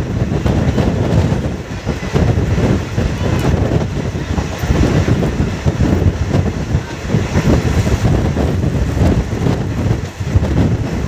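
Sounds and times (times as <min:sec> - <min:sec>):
train coaches rumbling on rails: 0:00.0 - 0:11.0
wind buffeting microphone: 0:00.0 - 0:11.0.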